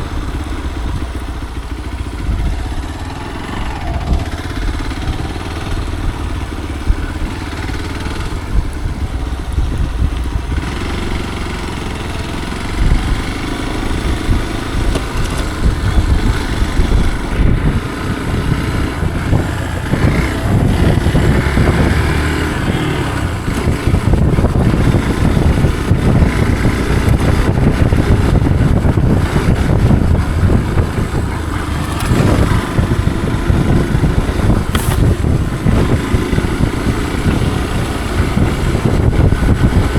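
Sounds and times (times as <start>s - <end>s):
motorcycle engine rough rumble: 0.0s - 39.9s.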